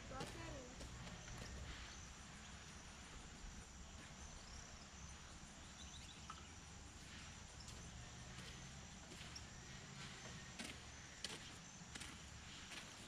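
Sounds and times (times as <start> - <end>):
high insect chirping: 0.0 - 12.6.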